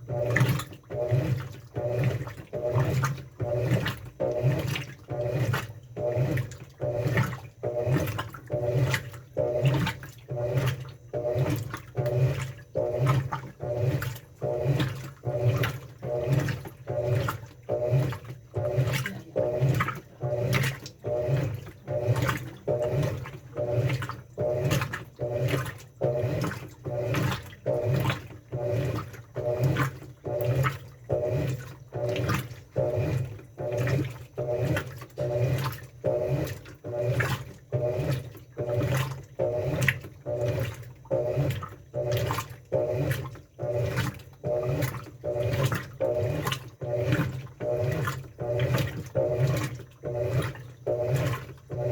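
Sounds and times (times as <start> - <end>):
washing machine motor hum: 0.0 - 51.9
washing machine sloshing water: 0.0 - 51.9.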